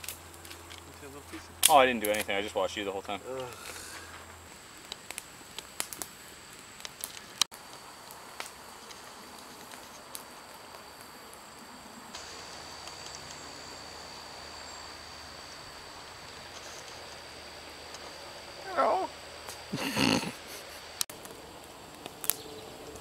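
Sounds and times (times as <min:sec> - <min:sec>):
campfire crackling and popping: 0:00.0 - 0:23.0
faint outdoor background: 0:00.0 - 0:23.0.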